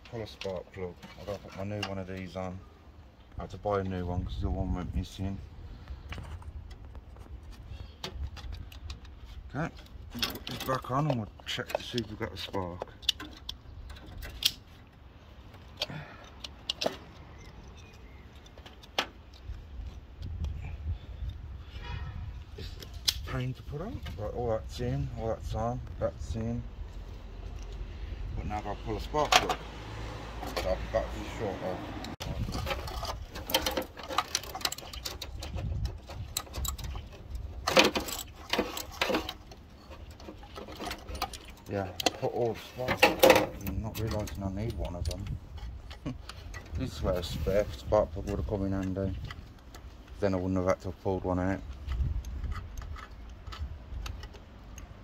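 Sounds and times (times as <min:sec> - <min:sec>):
clicks and metal rattles of parts: 0:00.0 - 0:55.0.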